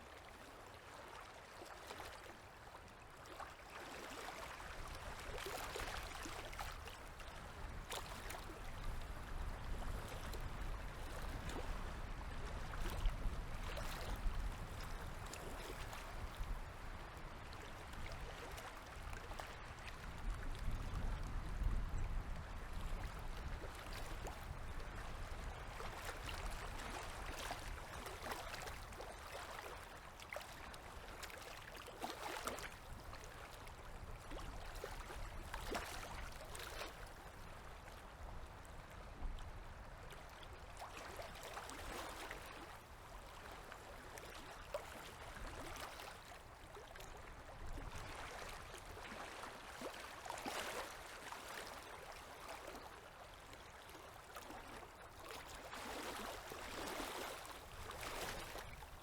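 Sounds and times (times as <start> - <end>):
waves lapping at shore: 0.0 - 59.0.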